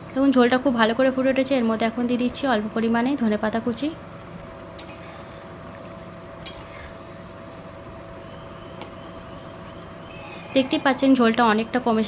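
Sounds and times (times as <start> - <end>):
faint steady hum: 0.0 - 12.0
gravy boiling in a pan: 0.0 - 12.0.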